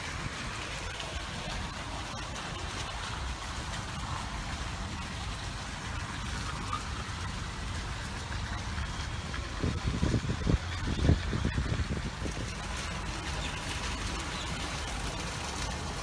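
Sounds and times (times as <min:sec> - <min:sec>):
toy train rumbling through water: 0:00.0 - 0:16.0.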